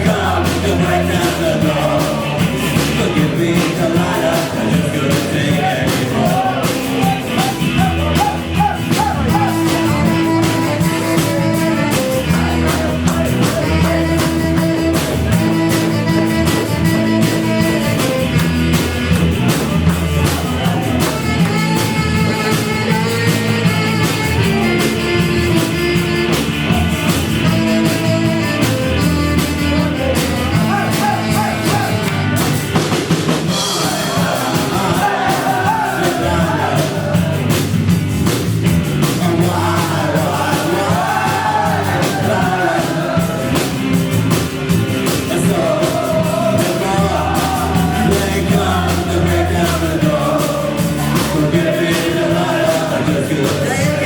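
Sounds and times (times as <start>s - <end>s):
drum kit beat: 0.0s - 54.0s
live rock band playing: 0.0s - 54.0s.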